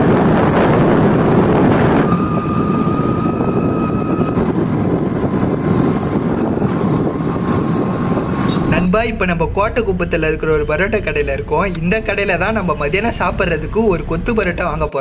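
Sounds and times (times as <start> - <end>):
faint steady whine: 0.0 - 14.9
wind rushing over microphone: 0.0 - 14.9
vehicle engine and road noise: 0.0 - 15.0.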